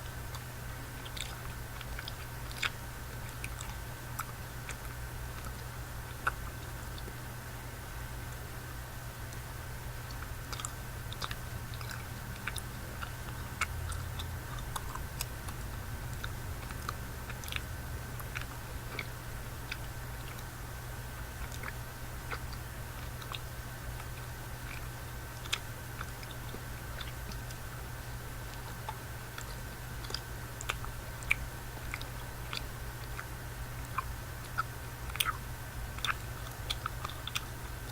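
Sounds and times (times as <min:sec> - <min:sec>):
low background hum: 0:00.0 - 0:37.9
mouth chewing candy: 0:00.0 - 0:37.9
wet mouth clicks and smacks: 0:00.3 - 0:07.2, 0:10.1 - 0:20.5, 0:21.4 - 0:27.6, 0:28.5 - 0:37.8.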